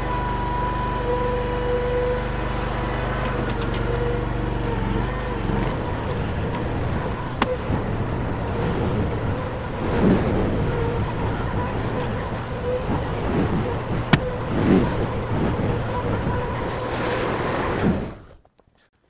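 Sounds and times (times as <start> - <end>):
small machine engine running: 0.0 - 18.3.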